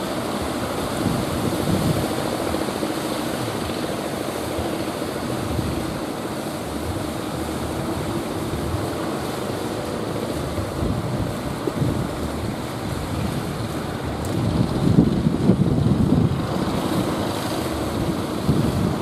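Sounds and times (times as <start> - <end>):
boat engine droning: 0.0 - 19.0
waves breaking: 0.0 - 19.0.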